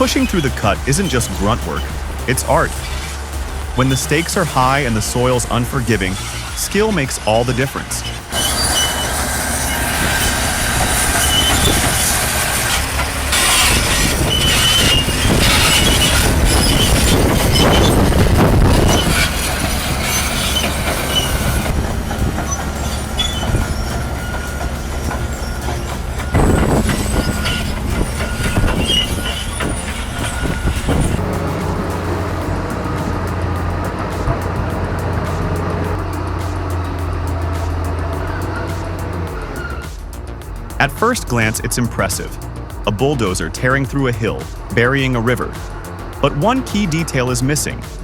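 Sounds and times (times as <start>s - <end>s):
diesel engine rumbling: 0.0s - 48.0s
steel tracks squealing: 0.0s - 48.0s.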